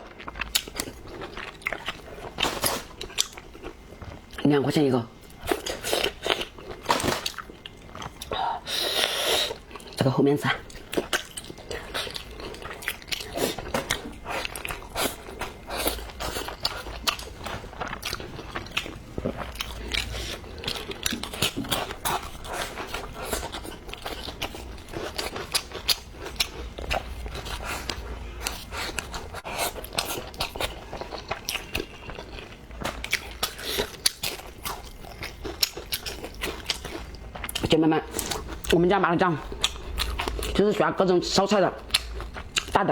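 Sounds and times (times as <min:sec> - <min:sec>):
person chewing crunchy food: 0:00.0 - 0:40.7, 0:41.5 - 0:42.8.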